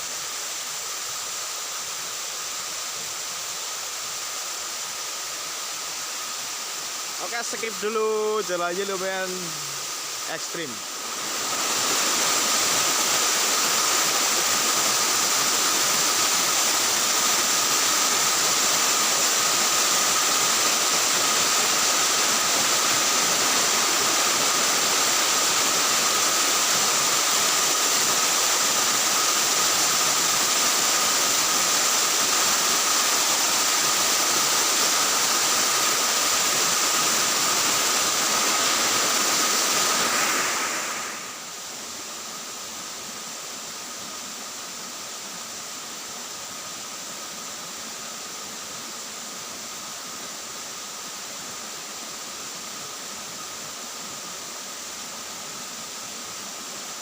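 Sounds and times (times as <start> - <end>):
loud rushing hiss: 0.0 - 57.0.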